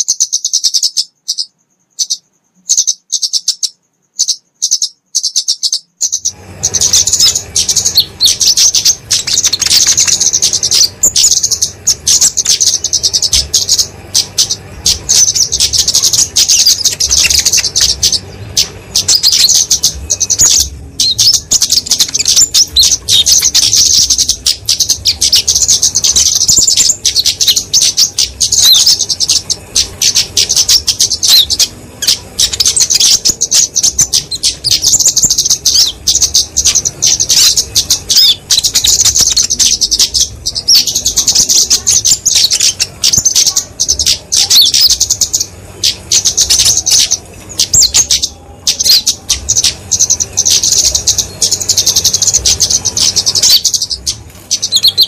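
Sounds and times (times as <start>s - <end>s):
bird rapid ticking chirps: 0.0s - 55.0s
low background hum: 0.0s - 55.0s.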